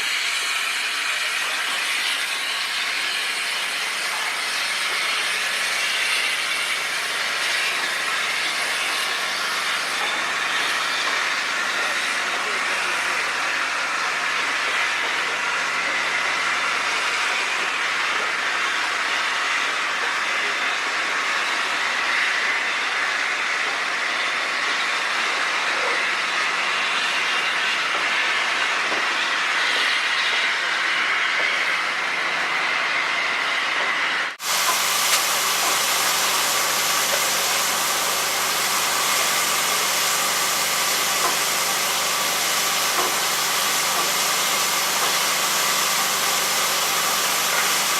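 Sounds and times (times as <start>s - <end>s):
locomotive hiss and rumble: 0.0s - 47.9s.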